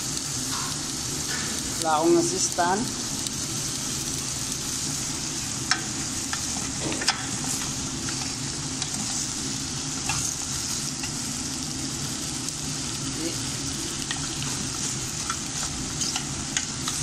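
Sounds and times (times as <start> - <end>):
food sizzling in a pot: 0.0 - 17.0.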